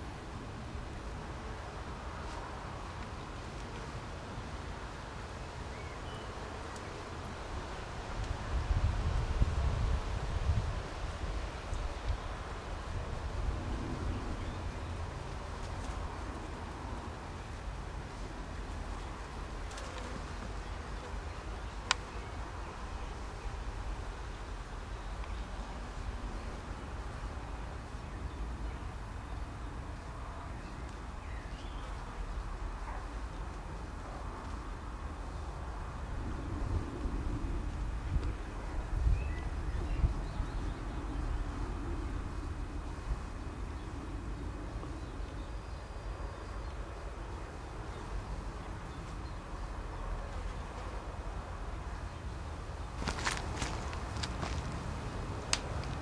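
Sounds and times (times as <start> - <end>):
low outdoor rumble and hiss: 0.0 - 56.0.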